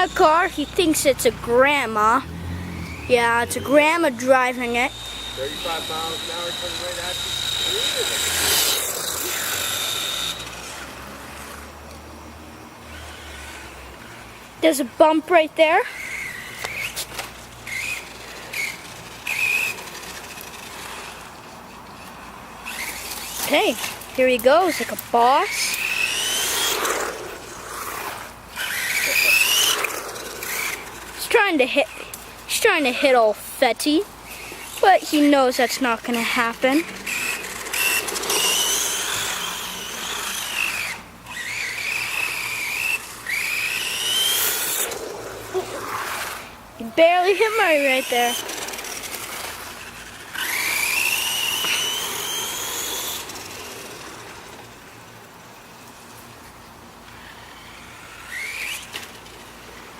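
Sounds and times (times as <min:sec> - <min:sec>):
rc car electric motor whining: 0:00.0 - 0:12.0, 0:12.8 - 0:54.9, 0:57.0 - 0:59.9.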